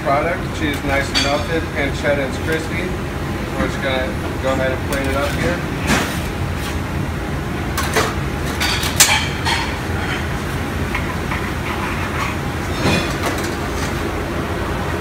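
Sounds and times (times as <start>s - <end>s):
kitchen ventilation hum: 0.0s - 15.0s.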